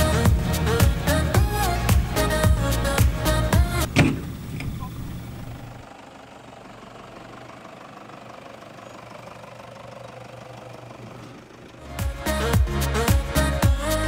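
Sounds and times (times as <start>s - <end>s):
pickup engine running at low revs: 0.0s - 14.0s.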